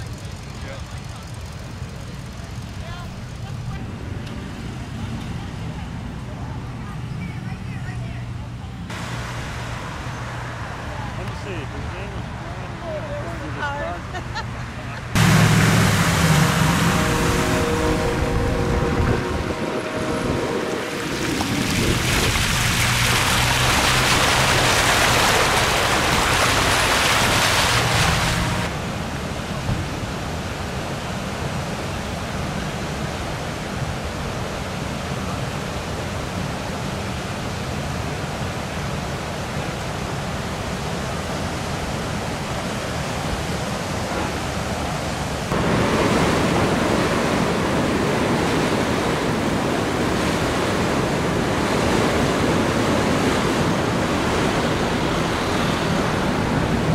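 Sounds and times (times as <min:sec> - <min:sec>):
rushing floodwater: 0:00.0 - 0:07.2, 0:08.9 - 0:56.9.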